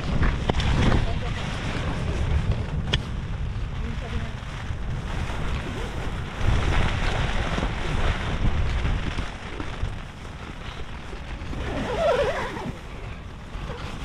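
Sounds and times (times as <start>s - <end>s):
wind and rain hiss: 0.0s - 14.0s
wind buffeting microphone: 0.0s - 14.0s.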